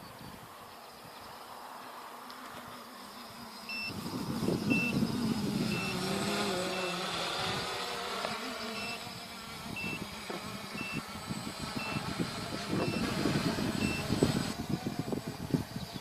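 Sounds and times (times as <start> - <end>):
drone motor hum: 2.2 - 16.0.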